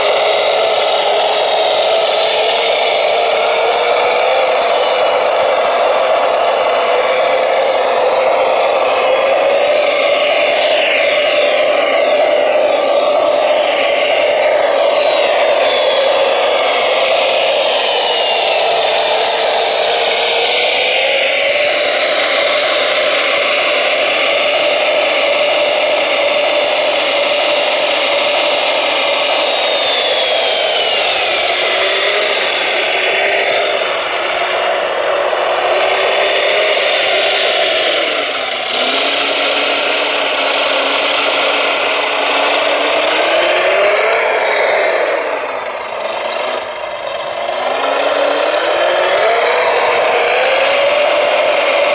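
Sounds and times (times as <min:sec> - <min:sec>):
electric motors whining: 0:00.0 - 0:51.9.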